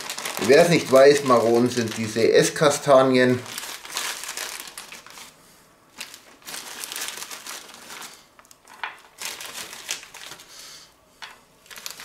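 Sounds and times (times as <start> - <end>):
plastic pouch crinkling: 0.0 - 10.5, 11.6 - 12.0.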